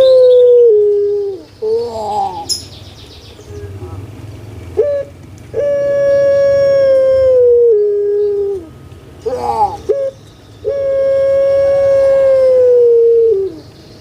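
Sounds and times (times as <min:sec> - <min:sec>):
dove calling: 0:00.0 - 0:04.0, 0:04.7 - 0:14.0.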